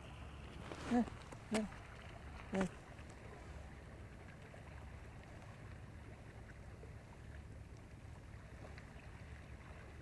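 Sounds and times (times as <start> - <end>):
sea water: 0.0 - 10.0
wind: 0.0 - 10.0.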